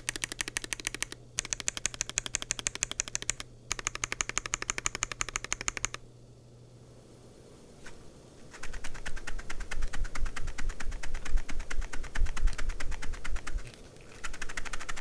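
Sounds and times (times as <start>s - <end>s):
fast typing on mechanical keyboard: 0.0s - 6.0s, 8.5s - 15.0s.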